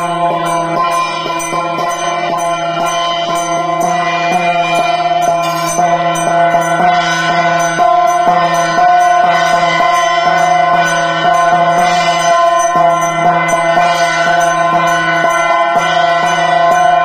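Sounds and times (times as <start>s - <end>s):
brass hand bell ringing: 0.0s - 17.0s.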